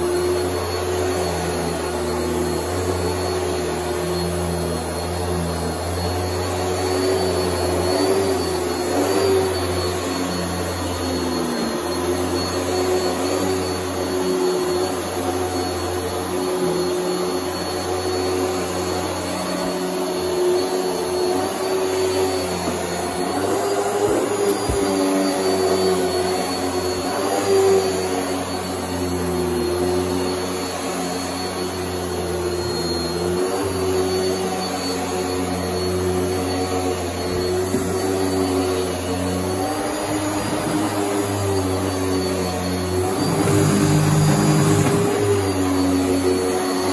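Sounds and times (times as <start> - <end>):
vacuum cleaner motor drone: 0.0 - 46.9.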